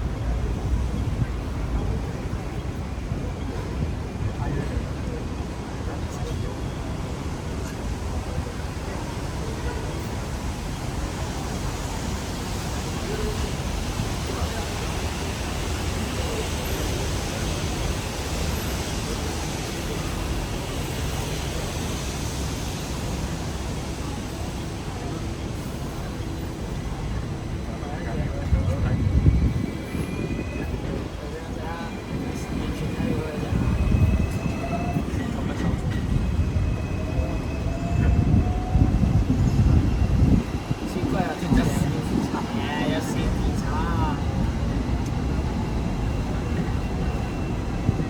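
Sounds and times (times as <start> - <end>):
tram rumbling: 0.0 - 48.0.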